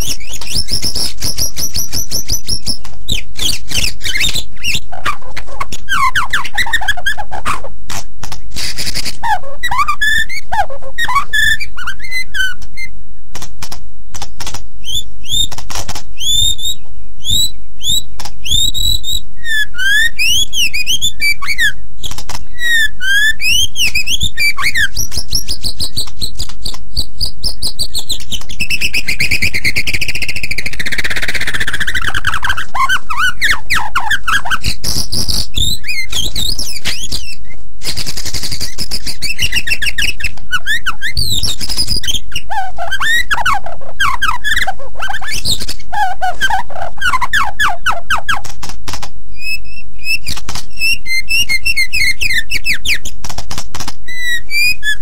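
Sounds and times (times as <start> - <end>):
bird singing whistles and trills: 0.0 - 7.7, 8.6 - 13.2, 14.8 - 48.4, 49.3 - 53.2, 54.1 - 55.0.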